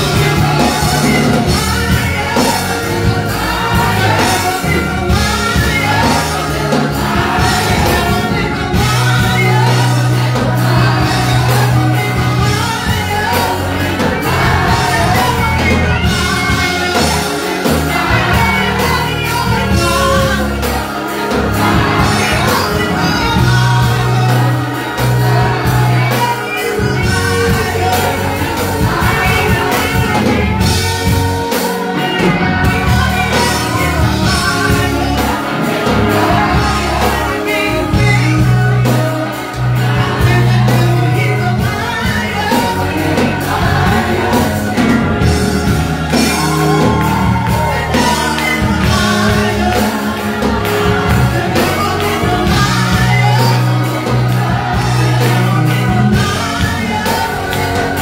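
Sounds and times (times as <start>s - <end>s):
band playing: 0.0s - 58.0s
group of singers: 0.0s - 58.0s.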